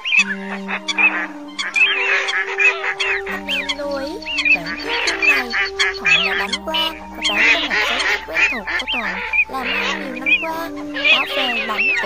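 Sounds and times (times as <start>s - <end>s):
ducks quacking and honking: 0.0s - 12.0s
steady low tones: 0.0s - 12.0s.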